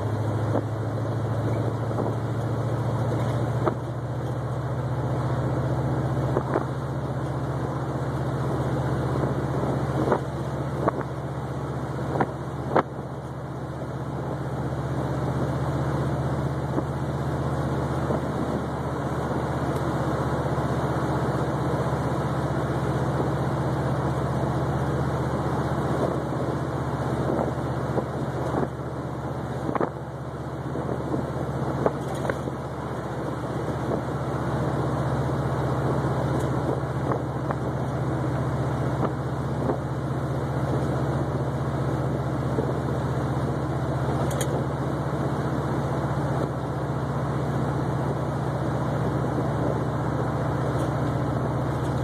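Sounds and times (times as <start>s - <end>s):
car engine running: 0.0s - 52.0s
road and tyre noise: 0.0s - 52.0s.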